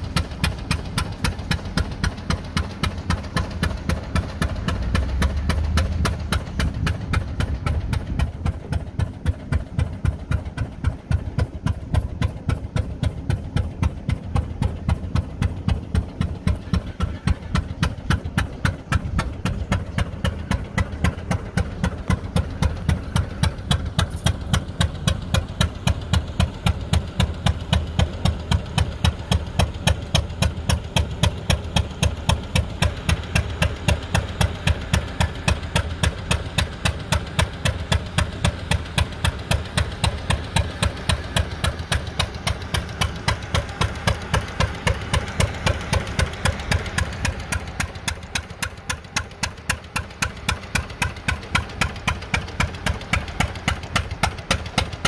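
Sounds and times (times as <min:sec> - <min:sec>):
single-cylinder engine exhaust popping: 0:00.0 - 0:55.0.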